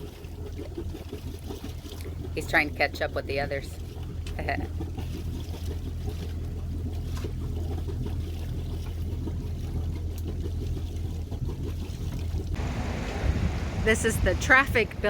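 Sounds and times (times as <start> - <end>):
boat engine humming: 0.0 - 15.0
water against hull: 0.0 - 15.0.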